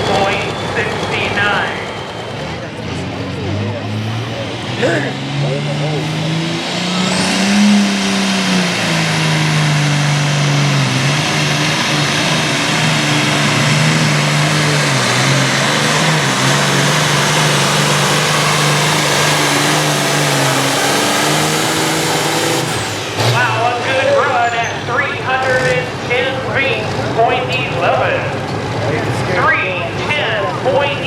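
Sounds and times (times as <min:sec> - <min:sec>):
diesel tractor engine at full load: 0:00.0 - 0:31.0.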